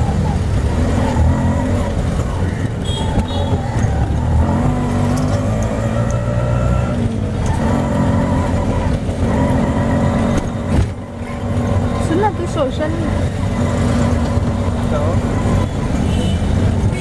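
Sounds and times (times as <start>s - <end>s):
rickshaw engine rumbling: 0.0s - 17.0s.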